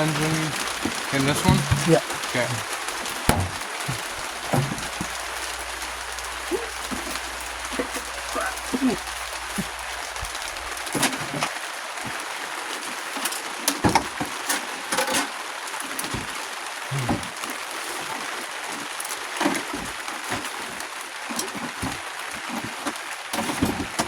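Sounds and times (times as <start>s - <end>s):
rain on a roof: 0.0s - 24.0s.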